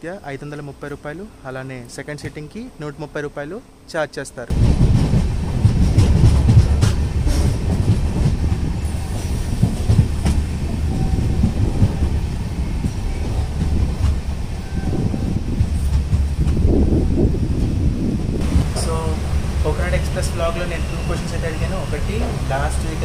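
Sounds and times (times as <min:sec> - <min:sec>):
train rumbling: 0:00.0 - 0:23.0
wheels clicking over rails: 0:04.5 - 0:23.0.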